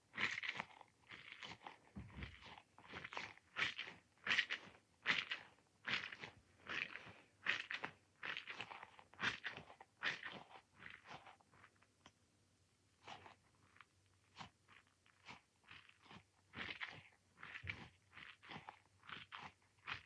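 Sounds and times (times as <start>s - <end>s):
squishy toy ball squelching: 0.1s - 11.8s, 12.9s - 20.0s.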